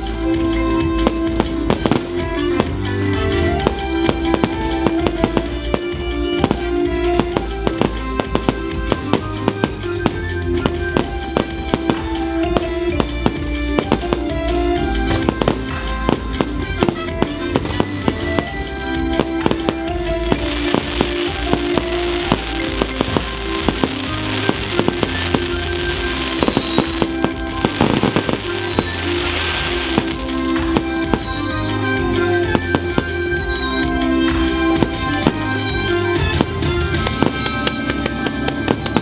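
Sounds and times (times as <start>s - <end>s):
fireworks bursting: 0.0s - 39.0s
music: 0.0s - 39.0s
sizzling crackle of fireworks: 0.0s - 39.0s.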